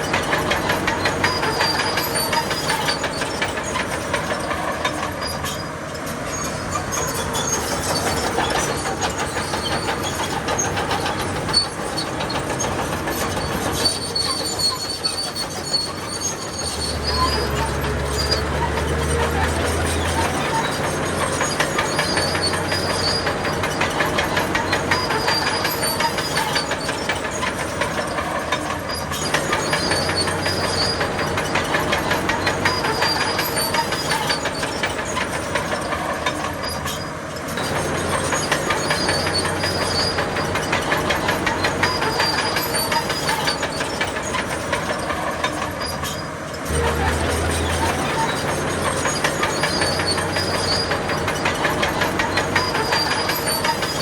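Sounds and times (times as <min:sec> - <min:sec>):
diesel engine running: 0:00.0 - 0:54.0
steel tracks clattering: 0:00.0 - 0:54.0.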